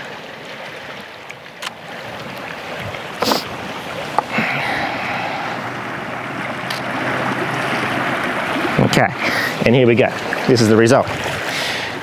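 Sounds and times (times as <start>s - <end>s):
sea water sloshing around rocks: 0.0s - 12.0s.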